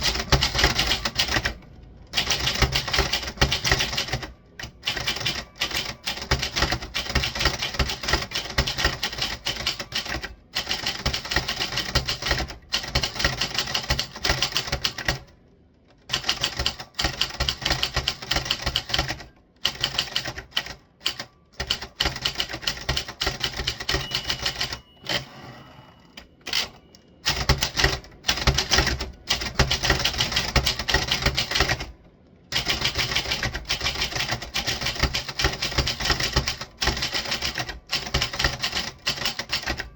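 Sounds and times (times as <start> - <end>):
typewriter typing fast: 0.0 - 15.3, 16.1 - 25.2, 26.5 - 39.9.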